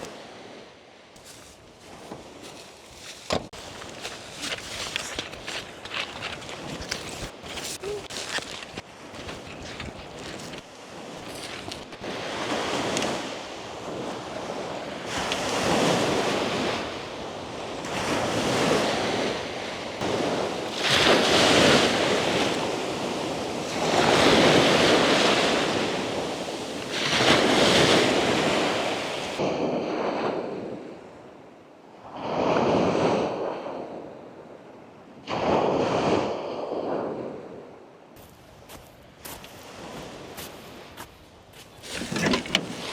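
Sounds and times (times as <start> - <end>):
sea waves breaking on shore: 0.0 - 34.5, 35.2 - 37.6, 41.8 - 42.9.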